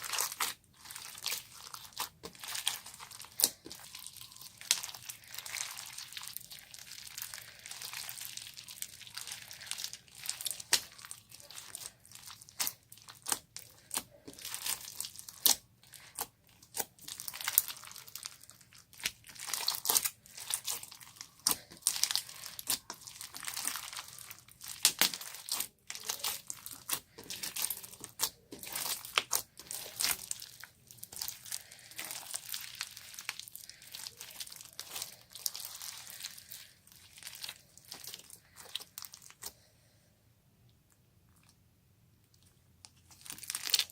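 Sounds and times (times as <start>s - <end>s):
slime crackling and popping: 0.0s - 39.6s, 42.9s - 43.9s.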